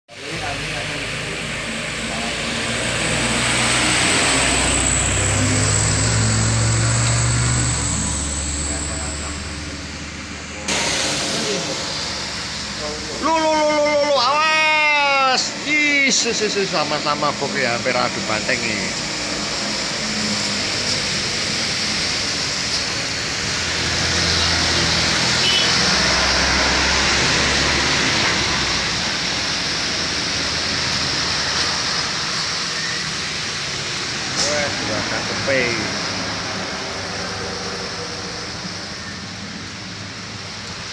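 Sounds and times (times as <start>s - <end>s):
truck diesel engine labouring: 0.1s - 40.9s
tyre and road hiss: 0.1s - 40.9s.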